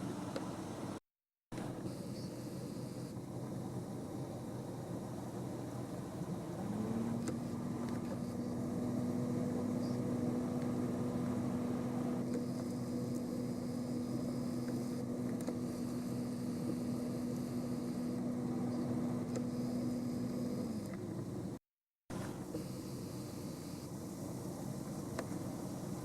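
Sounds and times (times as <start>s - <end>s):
mechanical engine hum: 0.0s - 26.0s.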